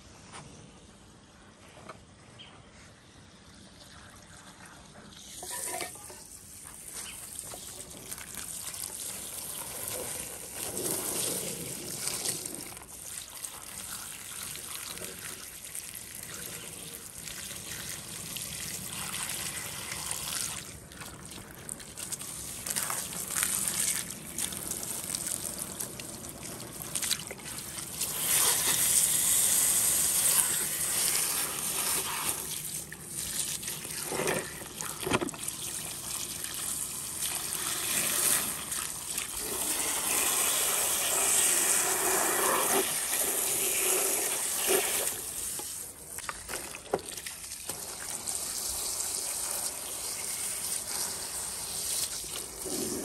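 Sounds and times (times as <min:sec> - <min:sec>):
hose water spraying: 0:05.1 - 0:53.0.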